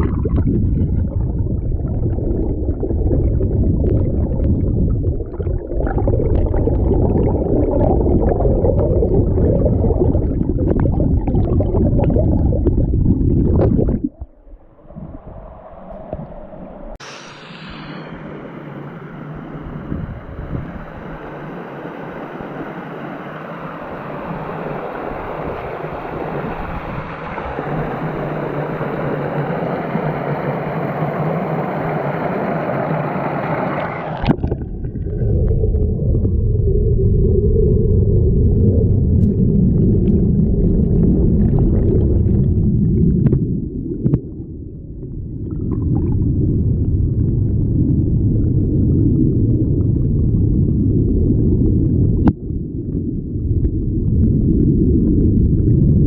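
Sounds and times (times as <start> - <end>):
muffled underwater rumble: 0.0 - 56.0.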